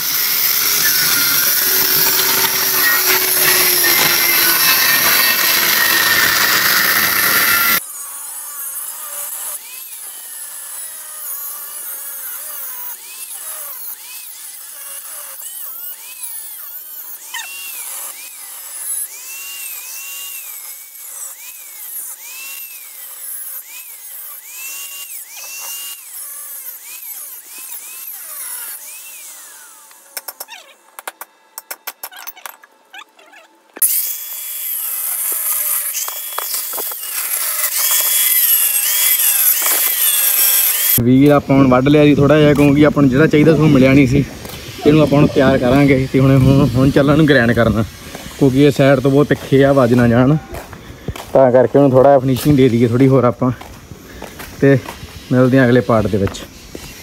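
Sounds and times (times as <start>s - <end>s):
angle grinder cutting steel: 0.0s - 57.0s.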